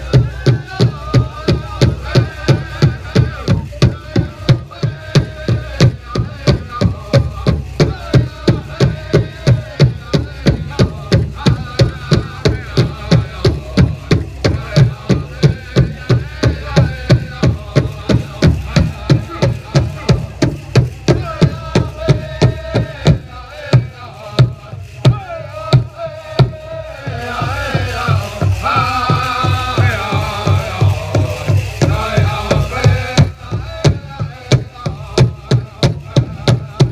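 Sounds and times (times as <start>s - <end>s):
drum beating: 0.0s - 36.9s
group of people singing: 0.0s - 36.9s.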